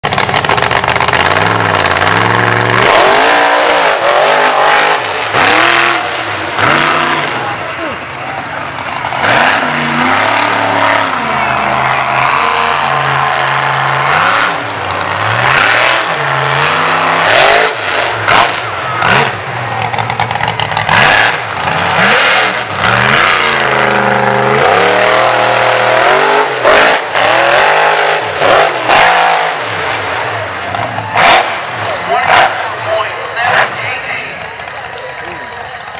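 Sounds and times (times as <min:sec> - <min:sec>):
truck engine revving hard: 0:00.0 - 0:35.9.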